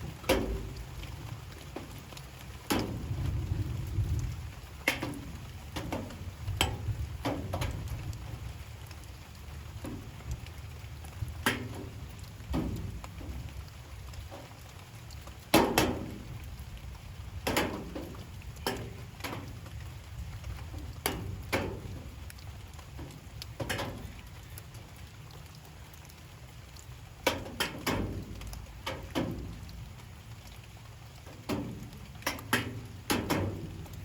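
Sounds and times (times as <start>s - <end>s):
light rain falling: 0.0s - 34.0s.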